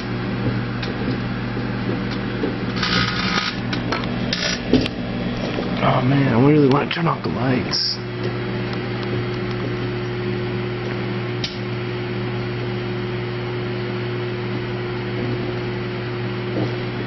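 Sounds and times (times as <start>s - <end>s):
microwave oven hum and fan: 0.0s - 17.0s.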